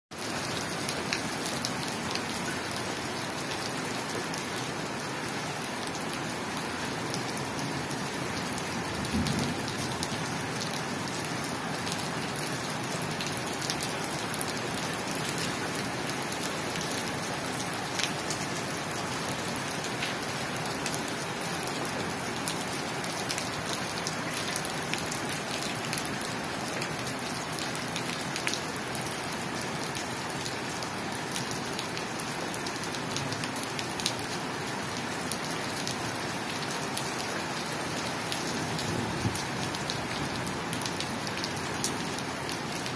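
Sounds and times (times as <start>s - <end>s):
rain on paved rooftop: 0.1s - 42.9s.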